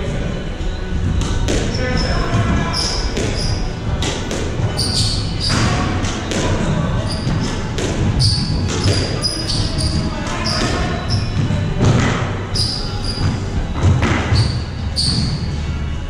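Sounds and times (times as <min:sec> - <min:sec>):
squash ball hits: 0:01.2 - 0:15.5
shoes squeaking on wooden floor: 0:01.4 - 0:15.6.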